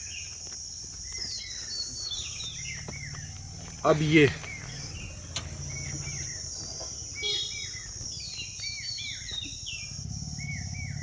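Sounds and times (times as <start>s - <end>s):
bird chirping: 0.0s - 11.0s
insects buzzing: 0.0s - 11.0s.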